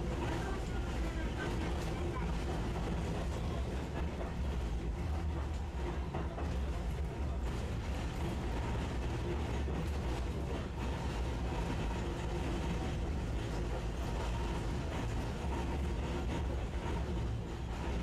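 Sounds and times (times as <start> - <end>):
streetcar wheels rumbling on rail: 0.0 - 18.0.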